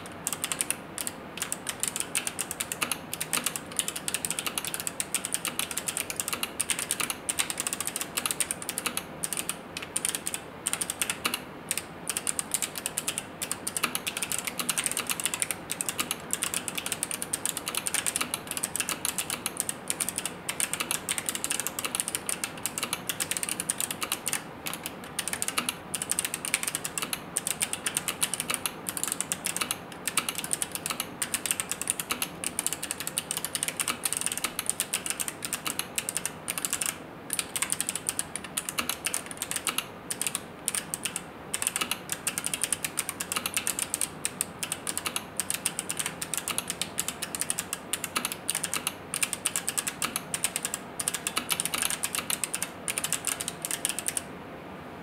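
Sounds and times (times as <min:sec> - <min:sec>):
mechanical keyboard typing: 0:00.0 - 0:54.3.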